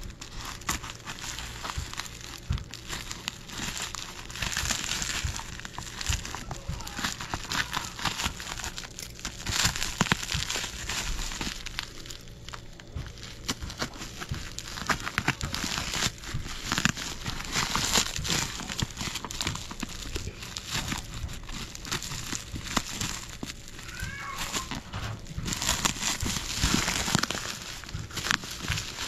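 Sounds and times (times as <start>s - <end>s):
bubble wrap and mailer crinkling: 0.0s - 29.0s.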